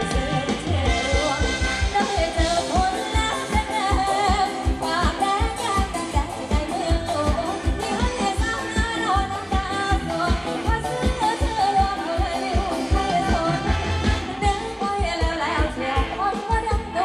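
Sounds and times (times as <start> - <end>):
fast drum beat: 0.0 - 17.0
person singing: 0.0 - 17.0.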